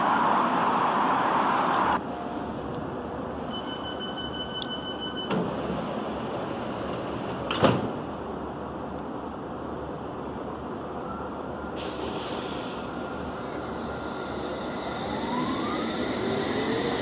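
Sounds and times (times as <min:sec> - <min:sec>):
railway background rumble: 0:00.0 - 0:17.0.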